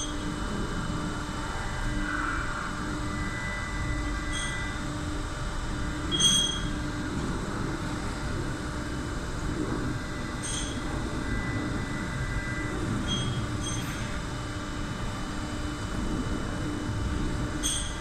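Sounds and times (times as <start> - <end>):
bowl feeder buzzing and rattling: 0.0 - 18.0.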